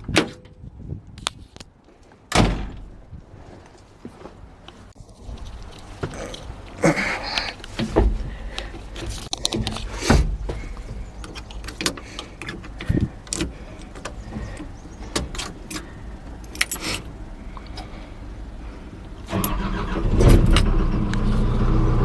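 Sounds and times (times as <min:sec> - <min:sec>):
low steady rumble: 0:04.4 - 0:22.0.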